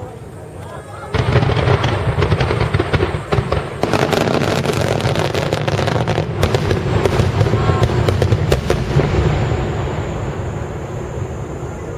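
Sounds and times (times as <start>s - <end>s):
fireworks bursting and crackling: 0.0s - 11.9s.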